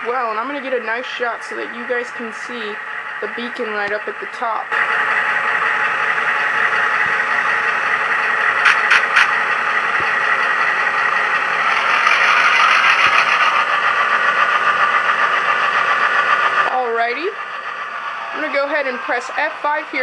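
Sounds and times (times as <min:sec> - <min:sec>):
model diesel engine sound: 0:00.0 - 0:20.0.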